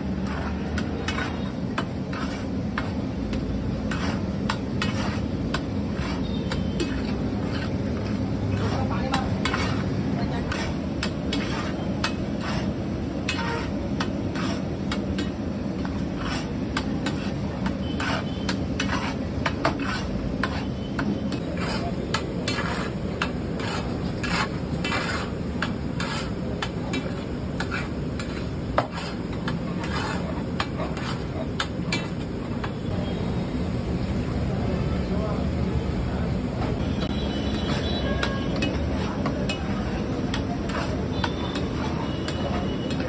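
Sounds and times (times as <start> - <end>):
metal masher scraping on iron pan: 0.1 - 32.8, 37.5 - 43.0.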